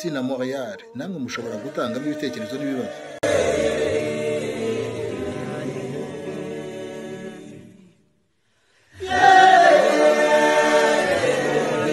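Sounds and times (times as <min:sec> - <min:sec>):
choir singing: 0:00.0 - 0:08.1, 0:08.9 - 0:11.9.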